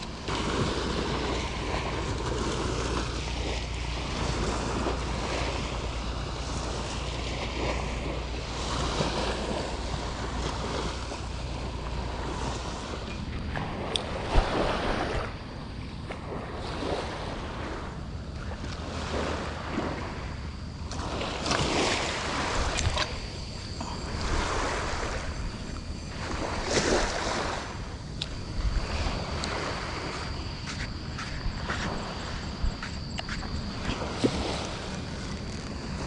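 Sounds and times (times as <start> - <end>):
small waves breaking on sand: 0.0 - 15.4, 16.1 - 36.0
wind on microphone: 0.0 - 36.0.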